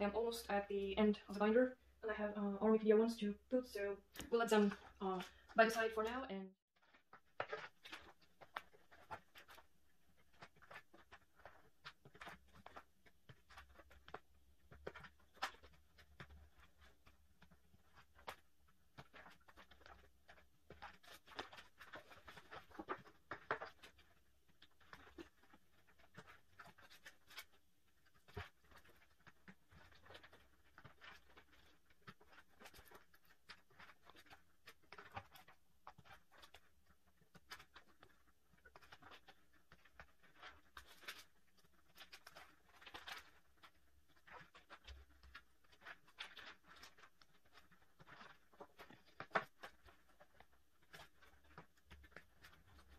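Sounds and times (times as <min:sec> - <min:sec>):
plastic sleeves rustling: 0:00.0 - 0:52.9.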